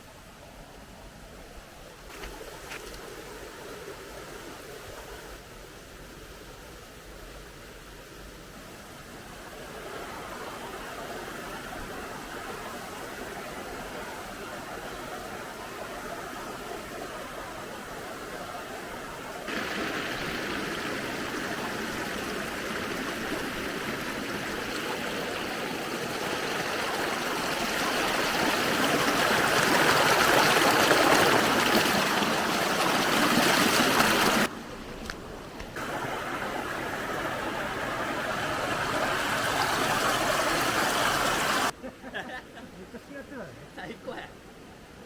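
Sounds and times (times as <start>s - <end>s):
stream water rushing: 0.0s - 41.8s.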